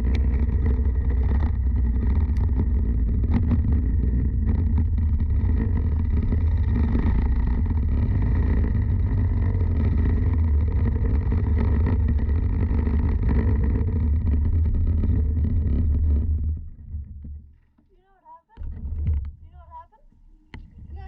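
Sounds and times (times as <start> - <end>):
kart engine low rumble: 0.0 - 21.0.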